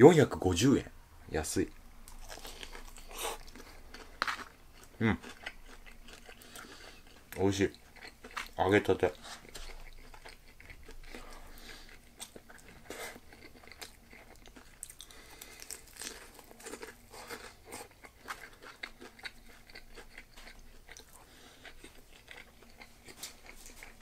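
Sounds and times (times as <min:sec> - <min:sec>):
person chewing crispy food: 0:02.0 - 0:24.0.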